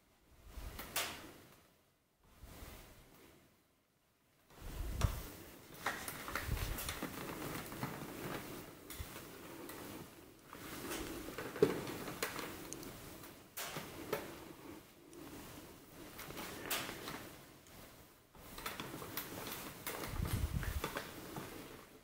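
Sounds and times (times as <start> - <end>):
cat fur rustling under stroking: 2.3 - 3.5, 4.5 - 22.0.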